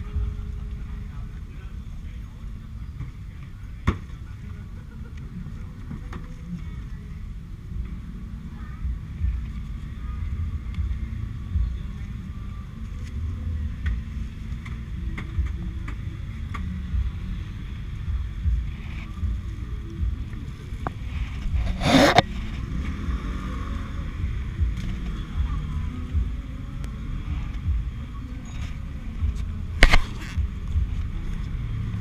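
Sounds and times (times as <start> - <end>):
motorbike engine and road rumble: 0.0 - 32.0.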